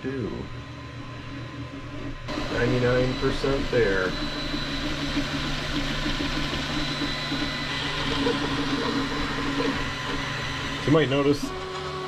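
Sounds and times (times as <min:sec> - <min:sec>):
fans humming: 0:00.0 - 0:12.0
stepper motors whirring: 0:01.8 - 0:12.0.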